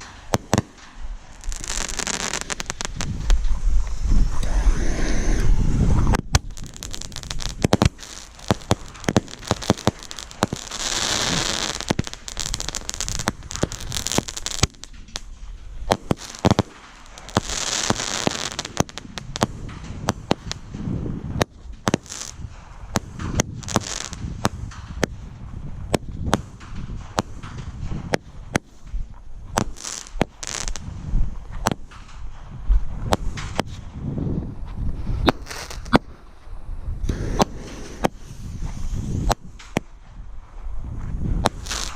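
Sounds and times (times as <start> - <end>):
dense crackling hiss: 0.0 - 41.9
fireworks cracks and bangs: 0.0 - 41.9.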